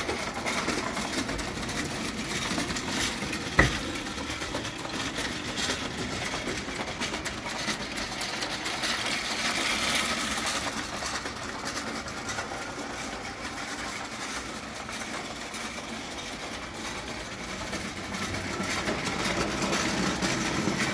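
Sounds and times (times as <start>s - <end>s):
toy steam locomotive clattering on rails: 0.0s - 20.9s.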